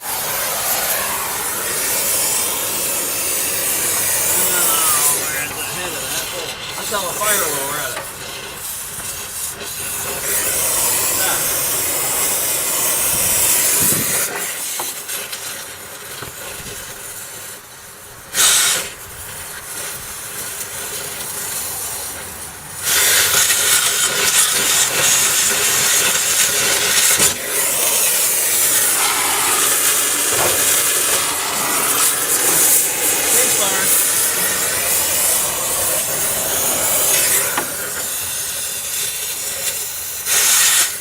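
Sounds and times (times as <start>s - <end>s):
cutting torch hissing: 0.0s - 41.0s.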